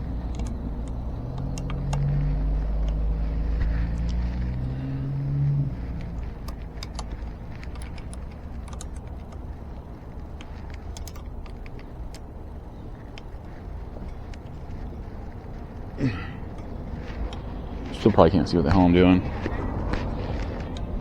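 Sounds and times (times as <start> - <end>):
light clicks of small parts: 0.0 - 18.2, 19.3 - 21.0
vehicle engine humming: 0.0 - 21.0.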